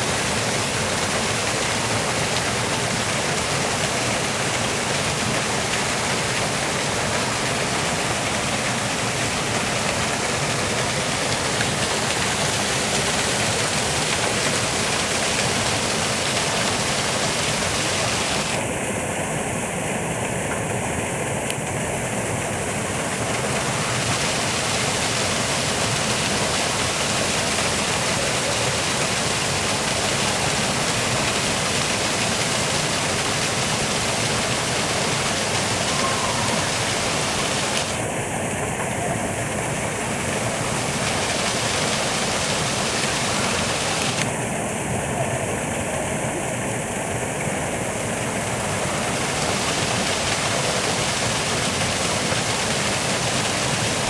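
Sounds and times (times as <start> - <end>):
waterfall rushing over boulders: 0.0 - 54.0.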